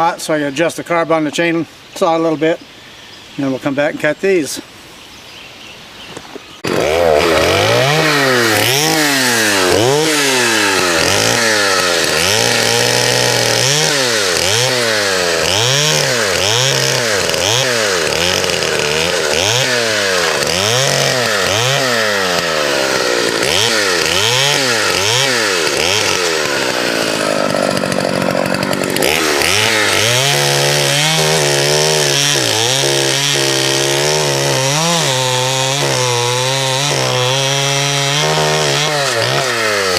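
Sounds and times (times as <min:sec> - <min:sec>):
chainsaw revving and cutting: 0:06.6 - 0:39.9.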